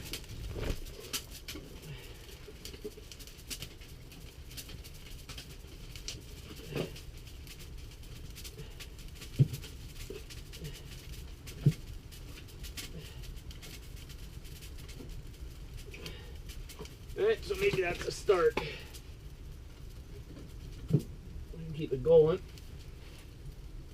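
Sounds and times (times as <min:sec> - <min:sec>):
kindling fire crackling: 0:00.0 - 0:23.9.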